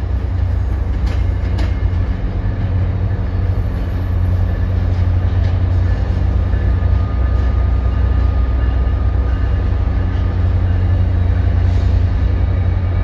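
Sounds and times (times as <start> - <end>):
diesel locomotive drone: 0.0 - 13.0
train coaches rolling over rails: 0.0 - 13.0.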